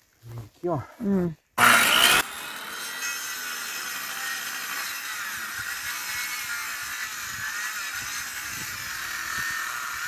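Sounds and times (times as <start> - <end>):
circular saw cutting wood: 1.6 - 10.0.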